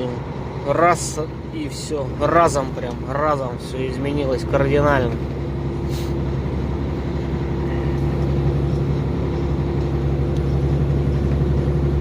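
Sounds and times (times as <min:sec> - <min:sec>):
diesel truck engine droning: 0:00.0 - 0:12.0
road noise: 0:00.0 - 0:12.0.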